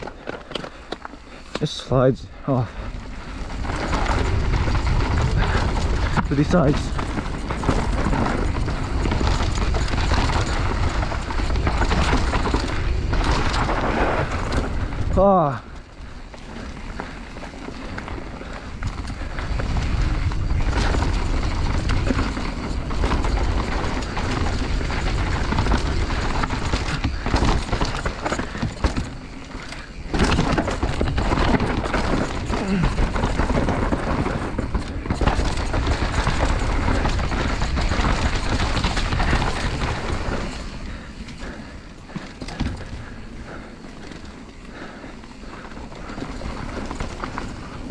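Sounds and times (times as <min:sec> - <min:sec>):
bike rattling: 0:00.0 - 0:47.9
bike tyres rolling over dirt: 0:00.0 - 0:47.9.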